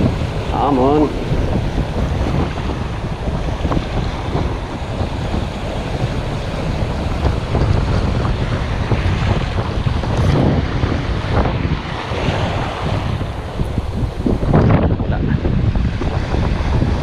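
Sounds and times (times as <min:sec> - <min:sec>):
waves washing on shore: 0:00.0 - 0:17.0
wind buffeting microphone: 0:00.0 - 0:17.0.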